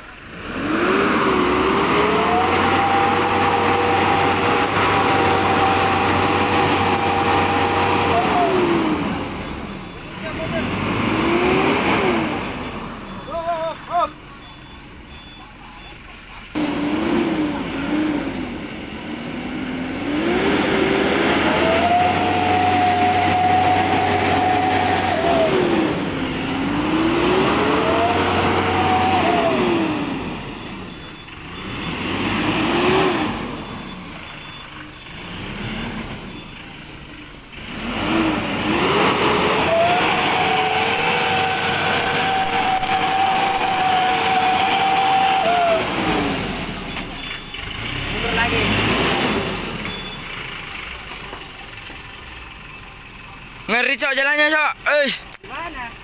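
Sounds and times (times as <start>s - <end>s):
truck diesel engine revving hard: 0.0s - 15.3s, 16.5s - 55.1s.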